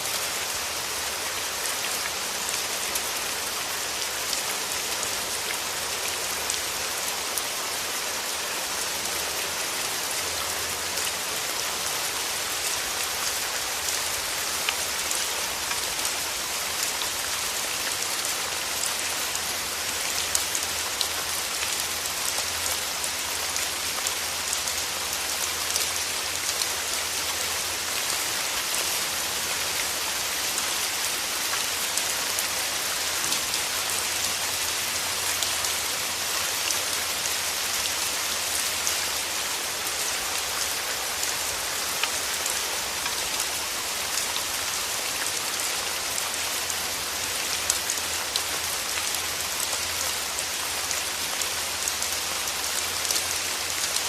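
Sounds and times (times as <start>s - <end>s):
rain falling through trees: 0.0s - 54.0s.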